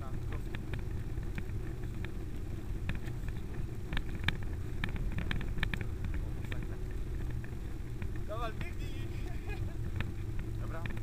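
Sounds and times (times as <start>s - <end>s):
light clicks and rattles: 0.0s - 11.0s
small car rolling over tarmac: 0.0s - 11.0s.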